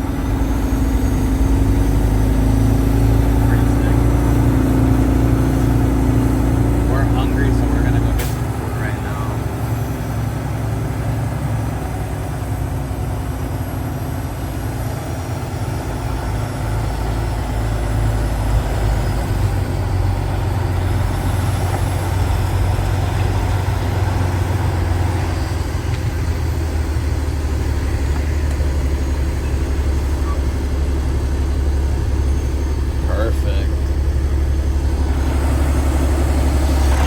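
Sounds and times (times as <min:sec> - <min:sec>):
vehicle engine low rumble: 0:00.0 - 0:37.0.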